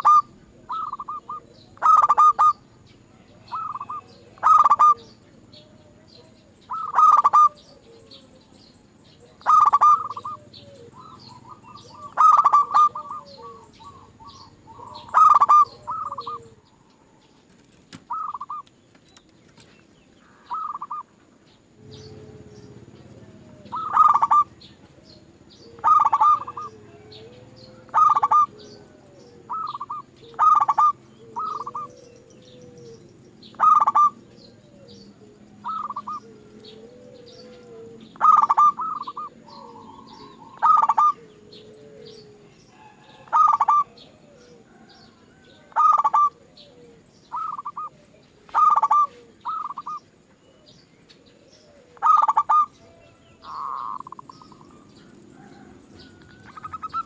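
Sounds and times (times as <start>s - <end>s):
dove cooing: 0.0s - 18.8s, 20.2s - 57.0s
small birds chirping: 0.0s - 57.0s
wavering bird calls: 0.0s - 57.0s.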